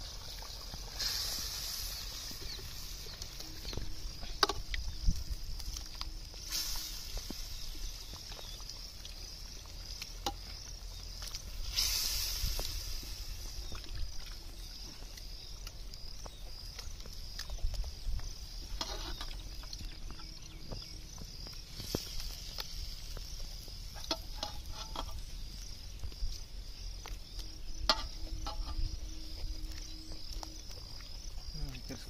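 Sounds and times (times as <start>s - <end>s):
insects chirring: 0.0s - 32.0s
wood fire crackling: 0.0s - 32.0s.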